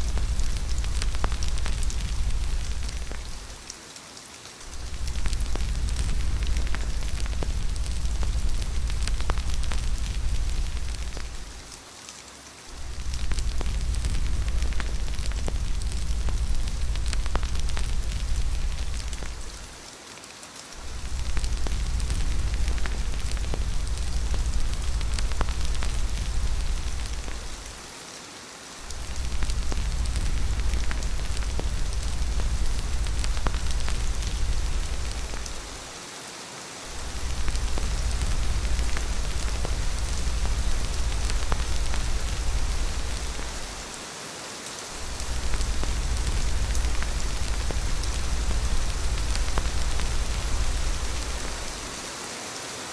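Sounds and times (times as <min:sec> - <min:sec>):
deep low rumble: 0:00.0 - 0:03.6, 0:04.7 - 0:11.8, 0:12.8 - 0:19.7, 0:20.8 - 0:27.8, 0:28.9 - 0:35.9, 0:36.9 - 0:43.9, 0:45.0 - 0:52.0
heavy rain: 0:00.0 - 0:52.9.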